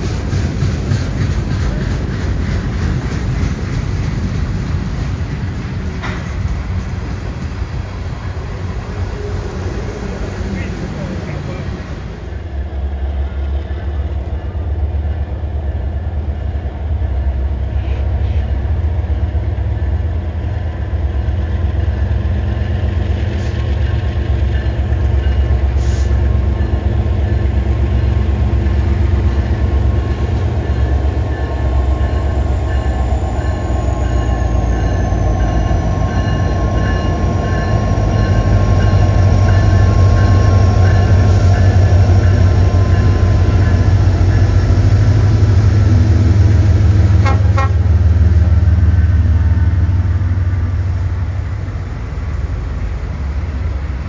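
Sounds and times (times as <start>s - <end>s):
diesel locomotives rumbling past: 0.0s - 54.0s.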